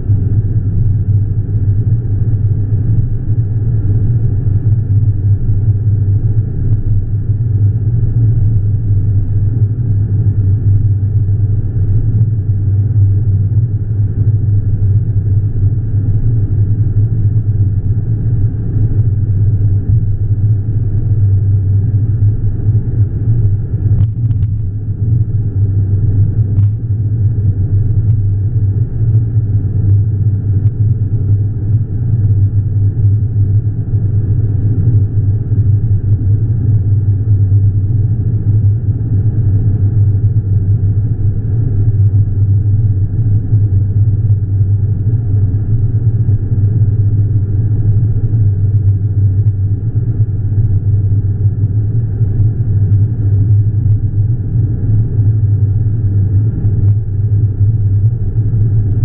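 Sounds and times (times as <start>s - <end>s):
car road rumble inside cabin: 0.0s - 59.0s.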